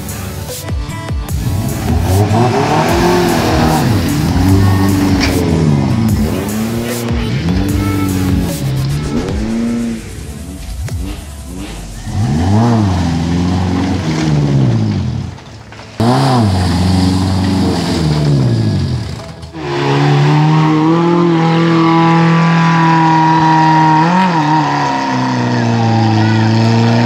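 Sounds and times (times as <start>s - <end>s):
car engine revving hard: 1.3s - 27.0s
wheels churning mud: 1.3s - 27.0s.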